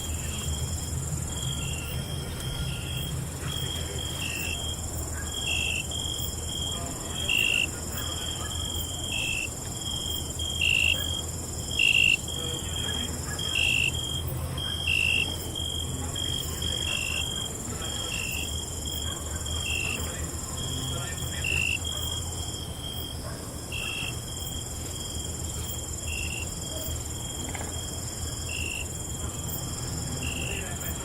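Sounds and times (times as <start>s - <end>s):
crickets trilling: 0.0s - 31.0s
lower cricket chirp: 0.0s - 31.0s.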